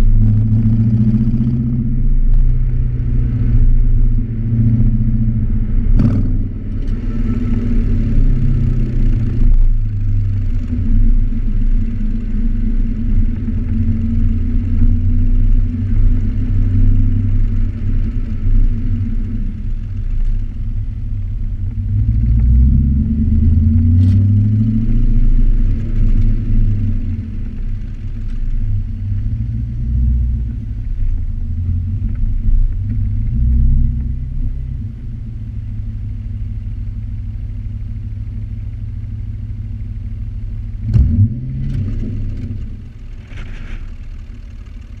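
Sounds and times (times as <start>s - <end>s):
car exhaust note: 0.0s - 45.0s.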